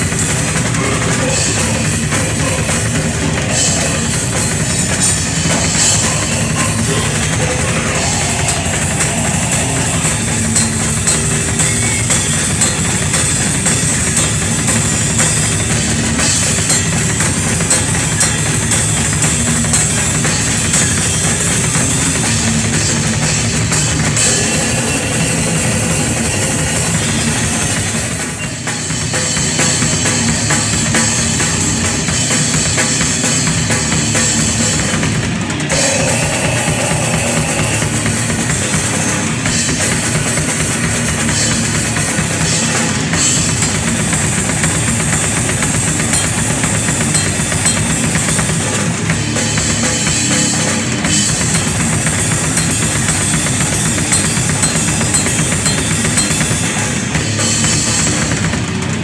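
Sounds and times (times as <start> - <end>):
drums and cymbals: 0.0 - 59.0
electric guitar: 0.0 - 59.0.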